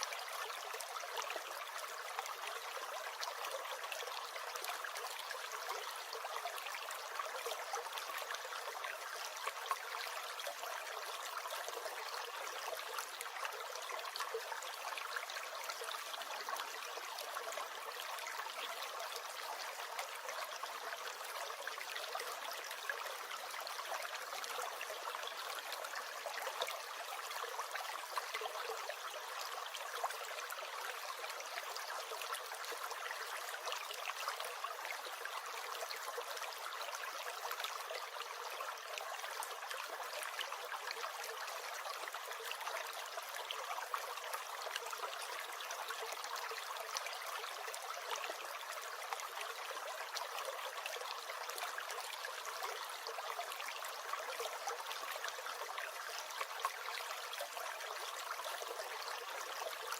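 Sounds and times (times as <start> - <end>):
stream gurgling and trickling: 0.0 - 59.9.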